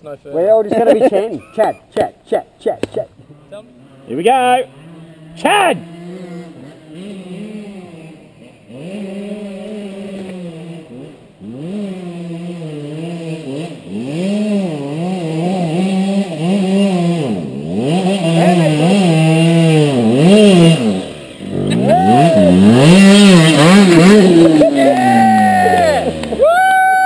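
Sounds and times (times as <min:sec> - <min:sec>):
dirt bike engine revving: 0:00.4 - 0:27.0.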